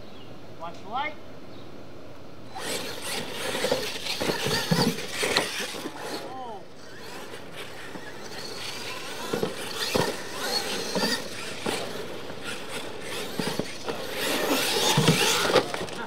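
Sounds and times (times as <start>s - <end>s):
toy truck motor whine: 2.5s - 16.0s
tyres scrabbling on dirt: 2.5s - 16.0s
trucks knocking over ramps: 2.6s - 16.0s.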